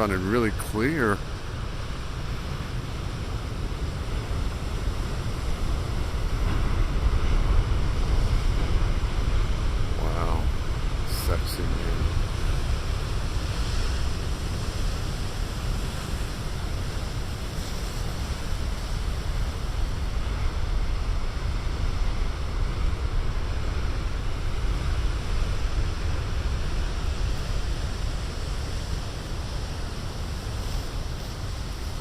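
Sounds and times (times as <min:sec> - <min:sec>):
ocean waves breaking: 0:00.0 - 0:32.0
wind rumbling on microphone: 0:00.0 - 0:32.0.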